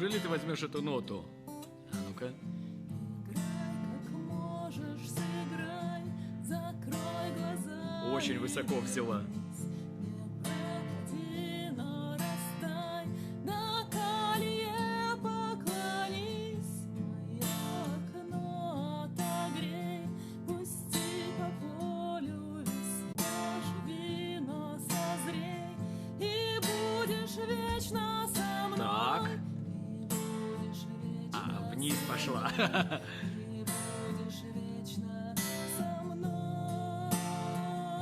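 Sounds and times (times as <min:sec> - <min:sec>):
strummed acoustic guitar: 0:00.0 - 0:38.0
woman singing with vibrato: 0:03.2 - 0:08.4, 0:10.2 - 0:31.8, 0:33.1 - 0:38.0.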